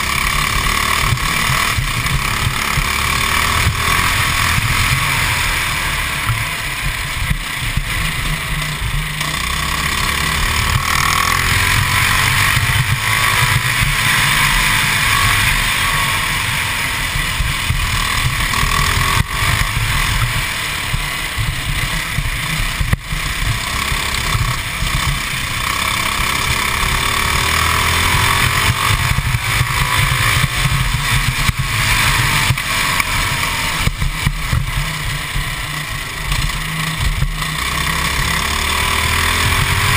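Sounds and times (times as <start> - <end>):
kart engine revving under load: 0.0 - 39.9.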